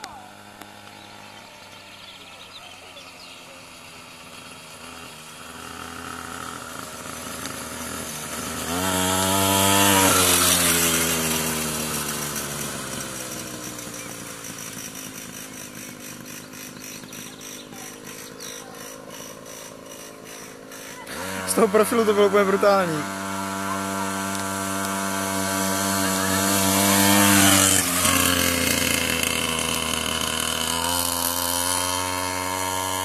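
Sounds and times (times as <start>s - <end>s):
minibike engine passing: 0.0s - 33.0s.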